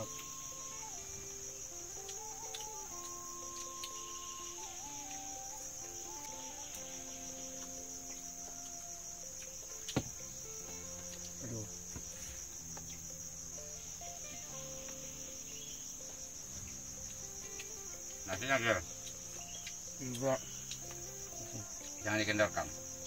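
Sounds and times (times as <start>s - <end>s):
forest insects chorus: 0.0s - 23.0s.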